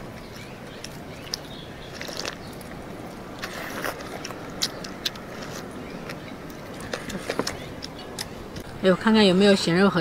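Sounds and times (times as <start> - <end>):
porridge slurping: 0.2 - 8.3.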